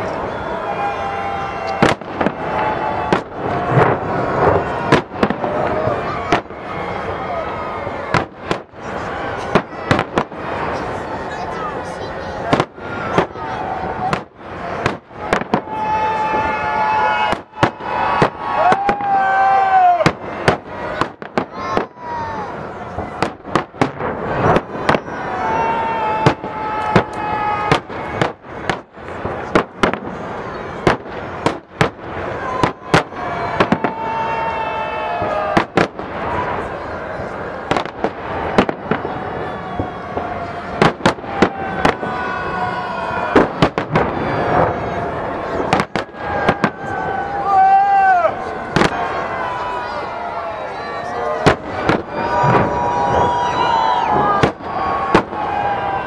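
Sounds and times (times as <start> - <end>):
crowd voices: 0.0 - 56.0
fireworks bangs: 0.0 - 56.0
fireworks display rumble: 0.0 - 56.0.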